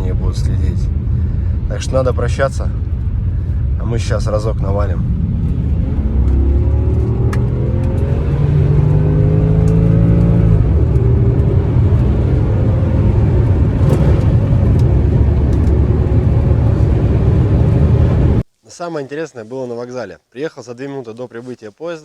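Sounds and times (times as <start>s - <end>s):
car engine accelerating hard: 0.0s - 18.4s.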